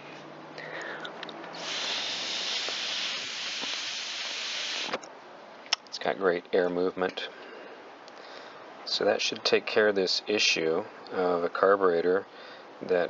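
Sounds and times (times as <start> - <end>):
air blown through vent hissing: 0.0 - 13.0.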